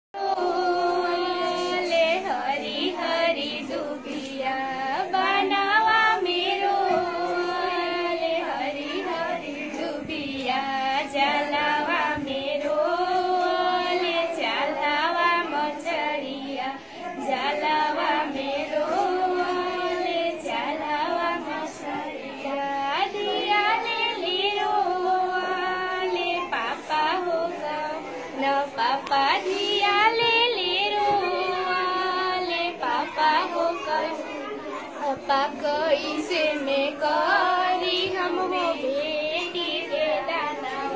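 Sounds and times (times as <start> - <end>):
girl singing folk song: 0.2 - 40.9.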